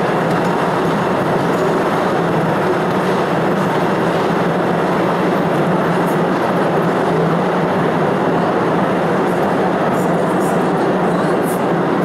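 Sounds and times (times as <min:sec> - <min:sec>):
train rumbling through tunnel: 0:00.0 - 0:12.0.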